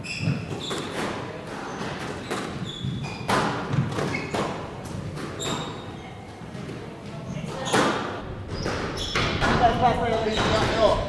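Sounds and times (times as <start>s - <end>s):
shoes squeaking on wooden floor: 0.0s - 11.0s
squash ball hitting walls: 0.1s - 5.8s, 6.5s - 11.0s.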